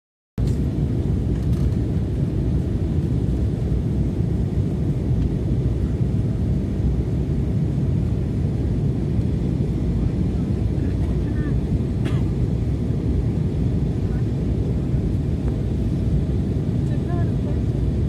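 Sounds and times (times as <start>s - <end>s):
airliner low rumble: 0.4s - 18.0s.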